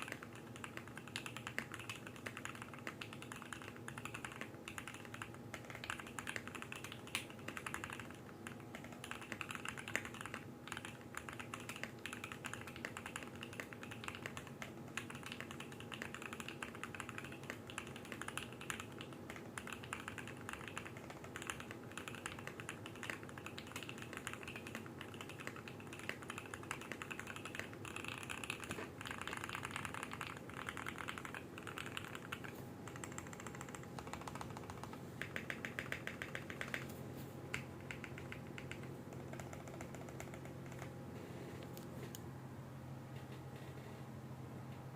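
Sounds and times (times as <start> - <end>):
fast typing on mechanical keyboard: 0.0 - 36.9, 37.5 - 41.0
faint steady hum: 0.0 - 44.9.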